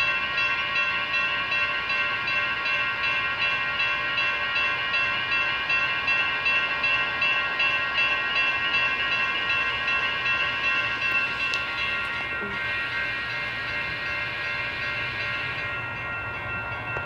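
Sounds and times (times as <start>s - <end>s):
railroad crossing bells ringing: 0.0s - 17.0s.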